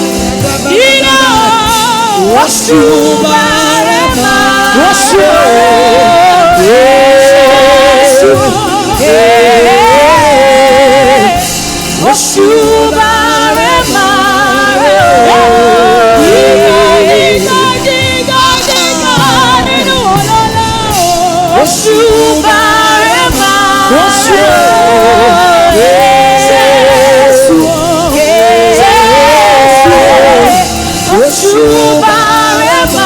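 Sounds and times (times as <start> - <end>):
instrumental accompaniment: 0.0 - 33.0
person singing gospel: 0.0 - 33.0.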